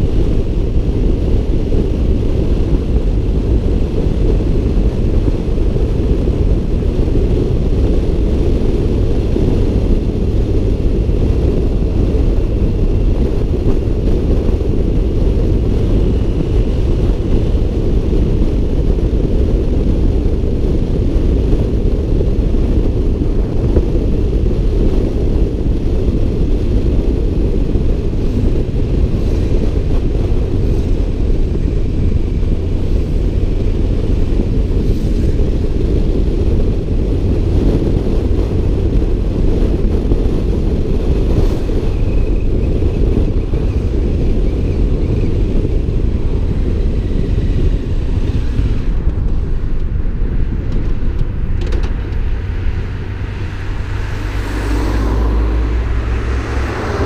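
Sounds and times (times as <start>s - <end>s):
motorcycle engine rumbling: 0.0s - 57.0s
wind on microphone: 0.0s - 57.0s.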